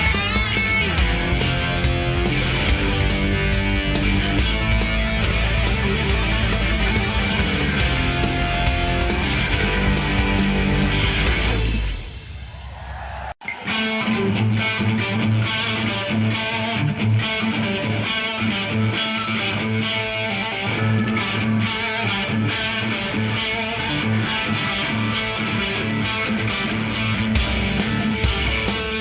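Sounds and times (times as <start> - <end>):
electric guitar: 0.0 - 12.4, 13.4 - 29.0
live hard rock band: 0.0 - 12.6, 13.4 - 29.0
bass guitar: 0.0 - 29.0.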